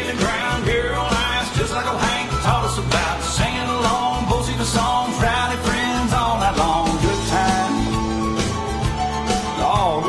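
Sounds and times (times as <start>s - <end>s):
country music with singing: 0.0s - 10.0s.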